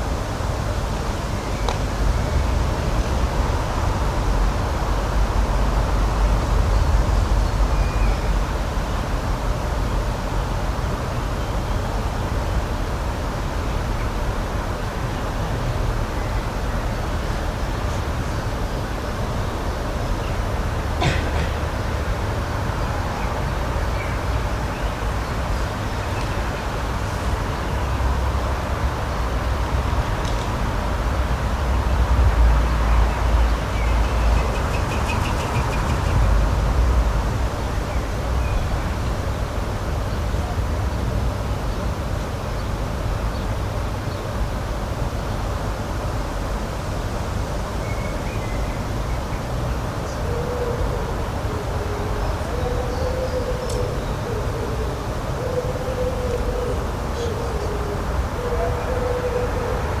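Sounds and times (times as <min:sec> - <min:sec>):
continuous rushing noise: 0:00.0 - 1:00.0.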